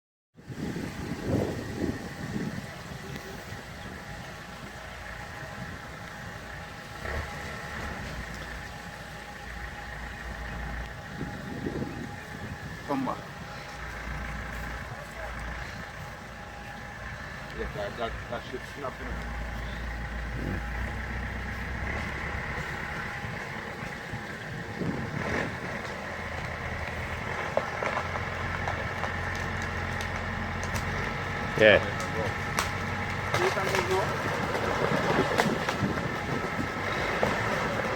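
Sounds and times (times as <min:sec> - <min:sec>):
heavy machinery engine running: 0:00.4 - 0:37.9.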